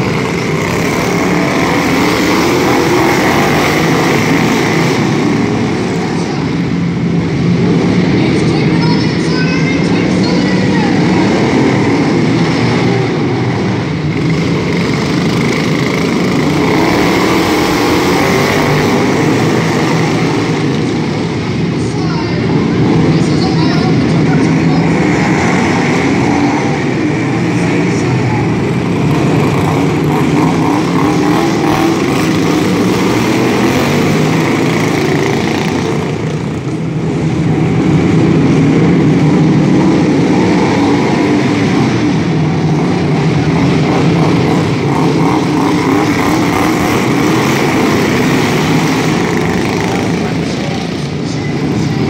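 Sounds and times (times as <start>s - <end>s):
lawn mower engines droning: 0.0s - 52.0s.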